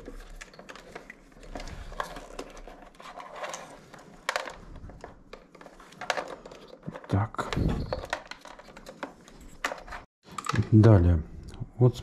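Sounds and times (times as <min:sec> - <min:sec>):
wires rustling and clicking: 0:00.0 - 0:10.9.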